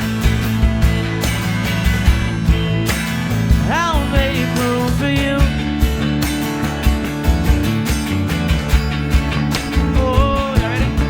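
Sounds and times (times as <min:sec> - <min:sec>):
drum kit steady beat: 0:00.0 - 0:11.0
rock band playing: 0:00.0 - 0:11.0.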